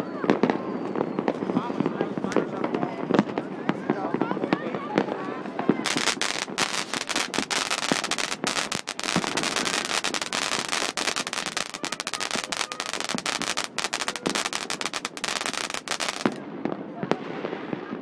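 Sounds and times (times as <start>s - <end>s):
firecrackers and fireworks crackling: 0.0s - 18.0s.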